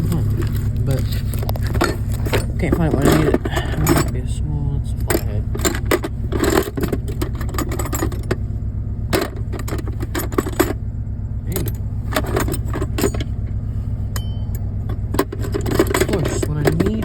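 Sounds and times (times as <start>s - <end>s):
metal tools clinking: 0.0s - 8.4s, 9.1s - 10.8s, 11.5s - 17.0s
low hum: 0.0s - 17.0s.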